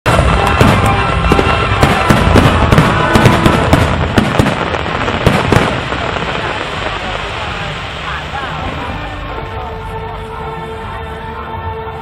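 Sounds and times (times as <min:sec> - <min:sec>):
fireworks bangs and crackles: 0:00.1 - 0:10.8.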